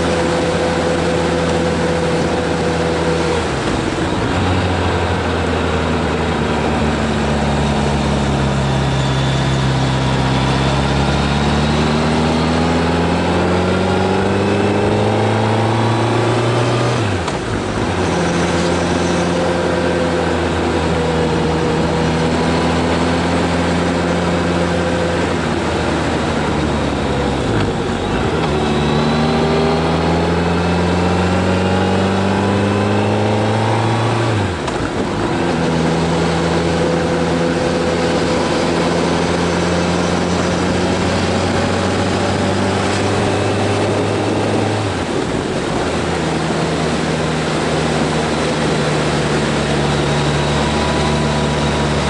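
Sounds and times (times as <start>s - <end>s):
road noise: 0.0s - 52.0s
vehicle engine pulling uphill: 0.0s - 52.0s.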